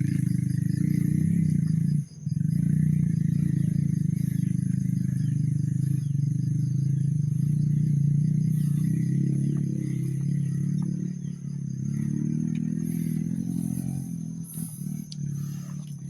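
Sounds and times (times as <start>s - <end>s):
vehicle engine running under load: 0.0s - 16.0s.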